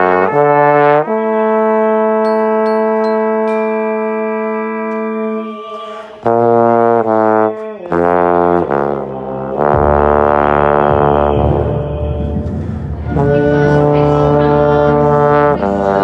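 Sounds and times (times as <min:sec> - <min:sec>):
trombone playing low notes: 0:00.0 - 0:05.4, 0:06.2 - 0:16.0.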